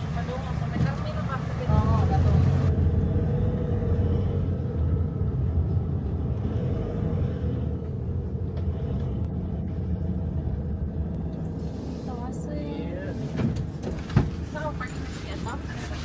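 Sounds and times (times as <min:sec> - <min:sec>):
car engine rumble: 0:00.0 - 0:16.0
road noise: 0:00.0 - 0:16.0.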